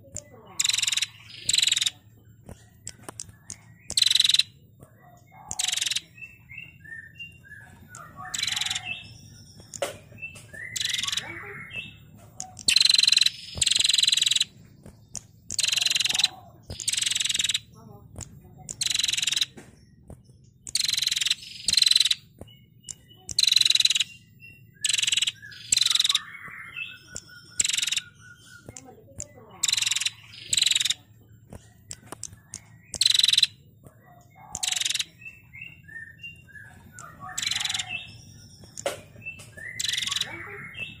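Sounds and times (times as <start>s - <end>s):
bird giving buzzy calls: 0.0s - 41.0s
soft bird chirps: 0.0s - 41.0s.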